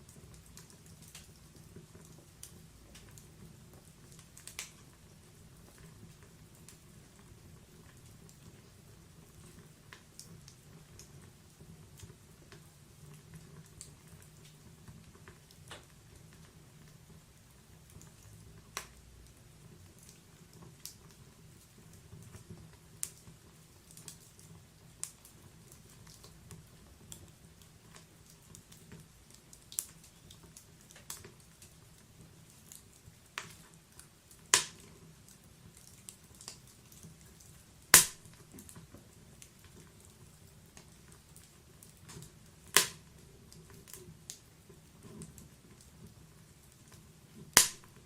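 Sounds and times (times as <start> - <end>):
burning logs popping: 0.0 - 48.0
wood fire crackling: 0.0 - 48.0.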